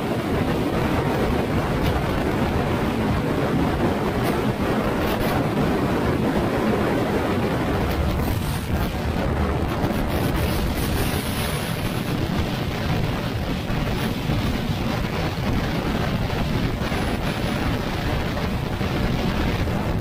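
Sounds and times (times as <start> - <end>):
scooter running: 0.0 - 20.0
wind buffeting microphone: 0.0 - 20.0.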